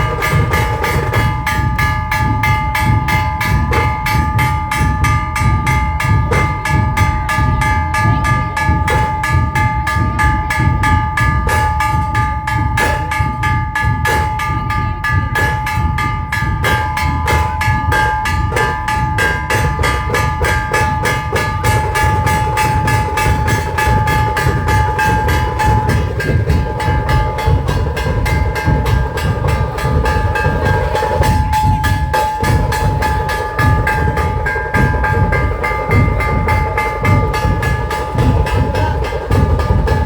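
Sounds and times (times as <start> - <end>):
heavy drum beats: 0.0 - 40.0
rapid drum strokes: 0.0 - 40.0
steady ringing tone: 0.0 - 40.0.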